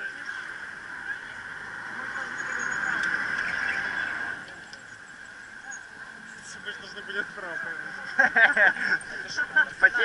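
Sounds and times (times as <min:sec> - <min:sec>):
bicycle rolling noise: 0:00.0 - 0:10.0
wind: 0:00.0 - 0:10.0.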